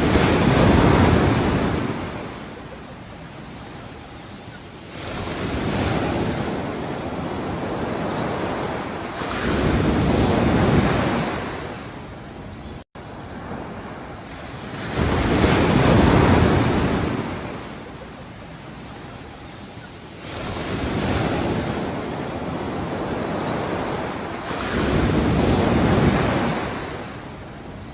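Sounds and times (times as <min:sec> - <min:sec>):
ocean waves washing in: 0:00.0 - 0:27.9.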